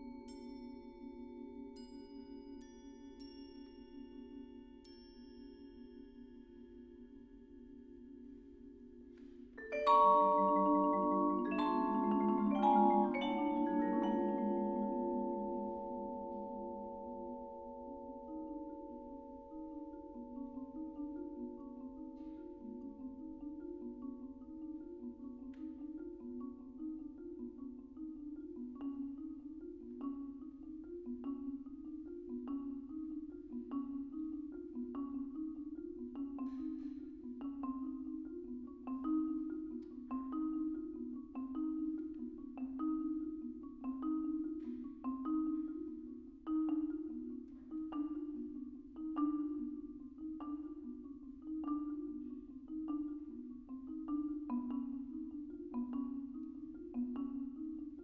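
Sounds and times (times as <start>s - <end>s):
marimba played with soft mallets: 0.0s - 58.0s.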